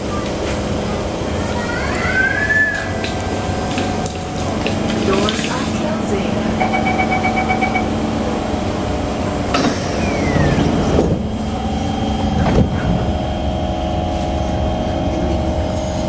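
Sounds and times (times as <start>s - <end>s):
train motor tone: 0.0s - 16.0s.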